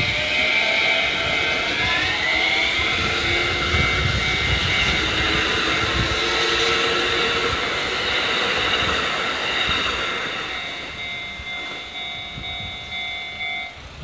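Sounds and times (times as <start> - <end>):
level crossing warning bell: 0.0 - 14.0
train wheels rumbling on rails: 0.0 - 14.0.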